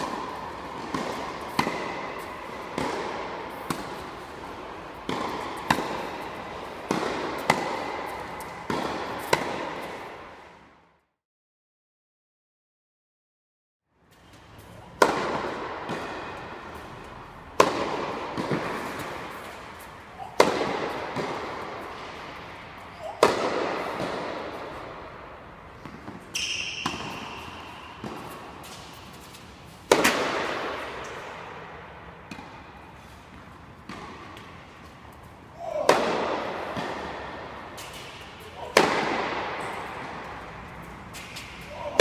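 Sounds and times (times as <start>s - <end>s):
tennis racquet striking ball: 0.0s - 10.6s, 14.6s - 42.0s.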